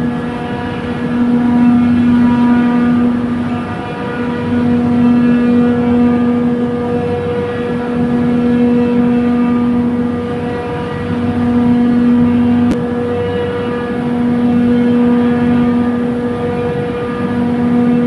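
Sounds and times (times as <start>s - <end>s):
chiller compressor humming: 0.0s - 18.0s.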